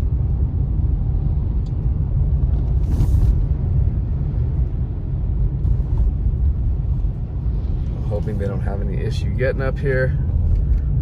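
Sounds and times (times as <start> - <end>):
car driving on wet road: 0.0 - 11.0.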